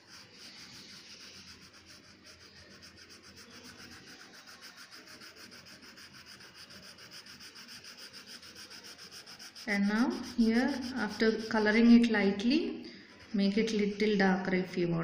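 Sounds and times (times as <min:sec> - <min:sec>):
crayon scratching on paper: 0:00.0 - 0:14.2.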